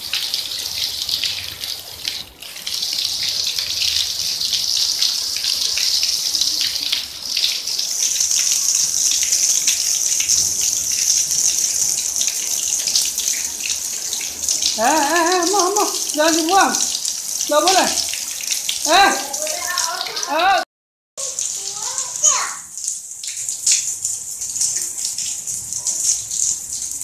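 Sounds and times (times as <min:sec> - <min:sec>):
heavy rain on concrete and grass: 0:00.0 - 0:20.6, 0:21.2 - 0:27.0.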